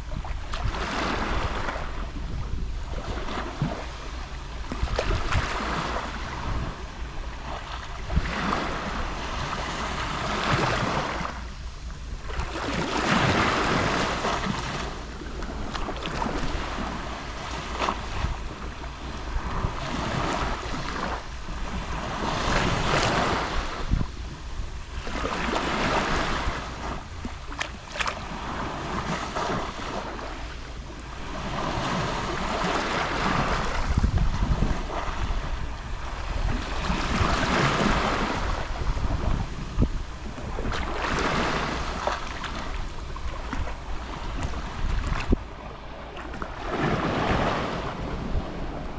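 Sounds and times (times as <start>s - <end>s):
small waves lapping on shore: 0.0s - 48.9s
wind rumble on microphone: 0.0s - 48.9s.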